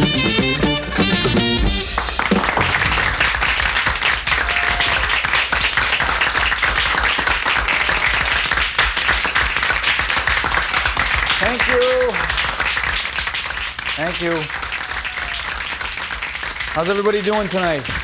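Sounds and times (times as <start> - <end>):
audience applauding: 1.7 - 18.0.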